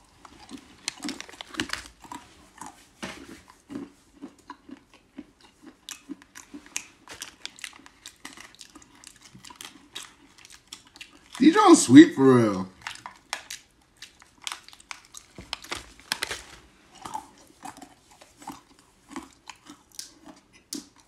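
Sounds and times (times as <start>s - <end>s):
nuts crunching: 0.2s - 2.7s, 3.7s - 21.0s.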